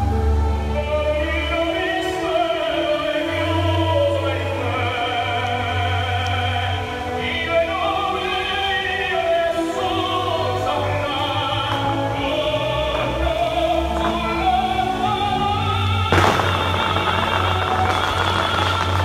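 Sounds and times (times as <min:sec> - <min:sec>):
operatic singing over loudspeakers: 0:00.0 - 0:19.0
orchestral accompaniment: 0:00.0 - 0:19.0.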